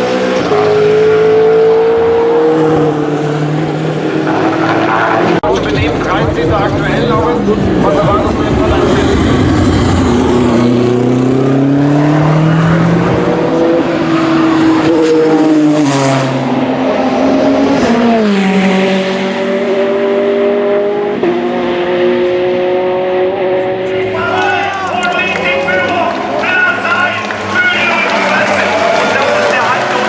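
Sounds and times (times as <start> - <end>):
race car engines running hard: 0.0 - 30.0.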